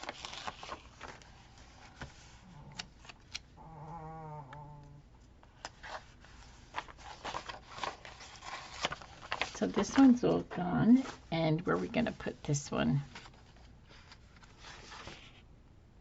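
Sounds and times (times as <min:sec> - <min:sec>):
sticker sheets rustling: 0:00.0 - 0:03.2, 0:05.5 - 0:15.4.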